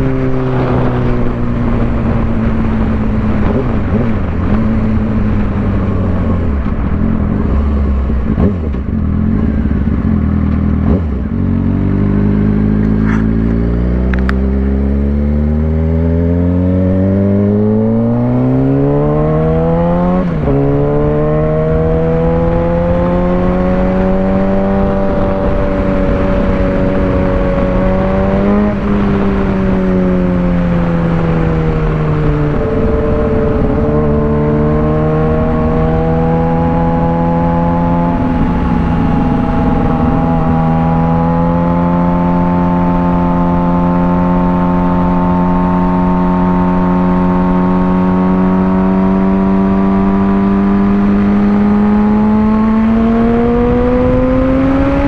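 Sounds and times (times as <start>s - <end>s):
motorcycle engine running: 0.0s - 55.0s
rushing wind noise: 0.0s - 55.0s.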